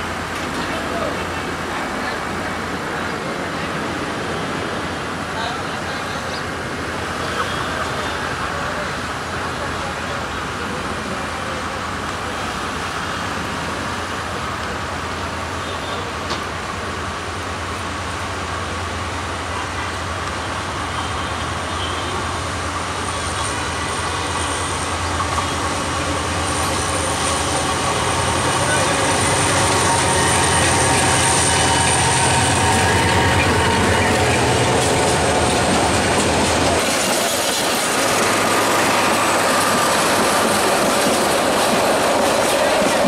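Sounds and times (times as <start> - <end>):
carriages rolling on rails: 0.0 - 43.0
diesel locomotive hum: 0.0 - 43.0.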